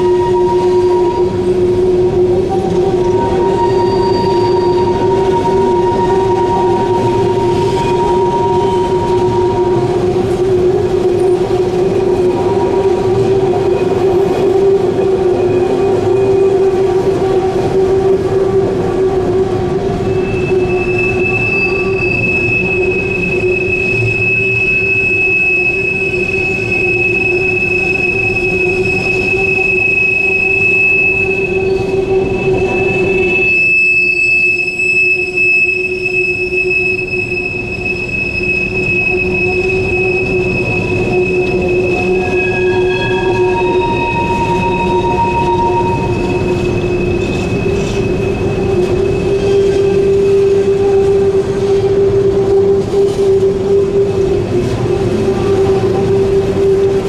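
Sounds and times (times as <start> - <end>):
train wheels squealing: 0.0 - 18.3, 19.2 - 57.0
rail cars rumbling: 0.0 - 57.0.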